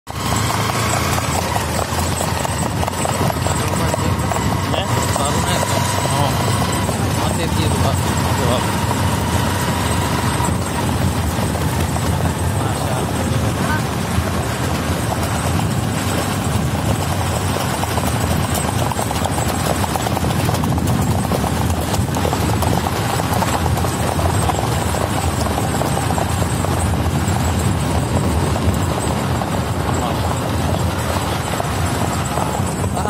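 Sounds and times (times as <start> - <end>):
horse hoofbeats on sand: 0.1 - 33.0.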